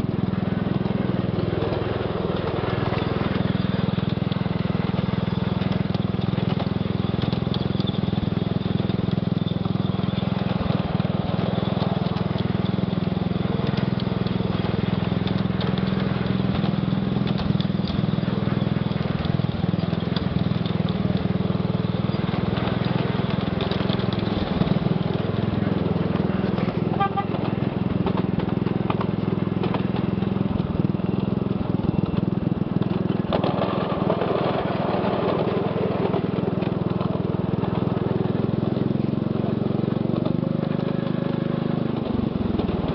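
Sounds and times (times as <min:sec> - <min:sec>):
small locomotive engine drone: 0:00.0 - 0:42.9
wheels clicking on track: 0:00.0 - 0:42.9.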